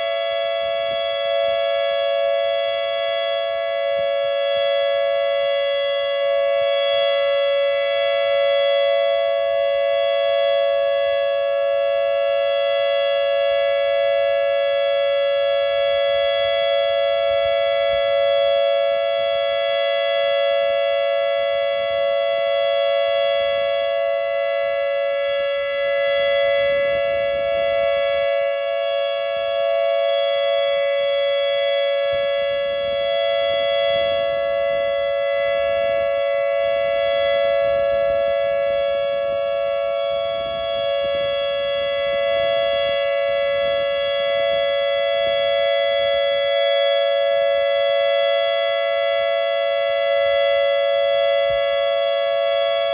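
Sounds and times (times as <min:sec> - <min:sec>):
warning siren steady chord: 0:00.0 - 0:52.9.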